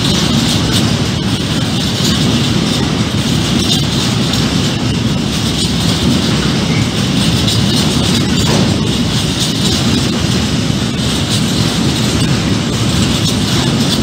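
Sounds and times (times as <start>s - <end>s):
train wheels rumbling on rails: 0.0s - 14.0s
wagons rattling: 0.0s - 14.0s.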